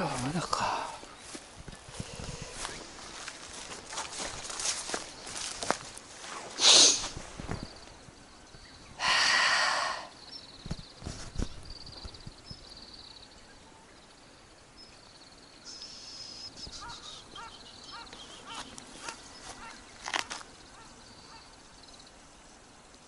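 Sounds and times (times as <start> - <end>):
birds trilling and chirping: 0.0 - 23.0
faint outdoor background: 0.0 - 23.0.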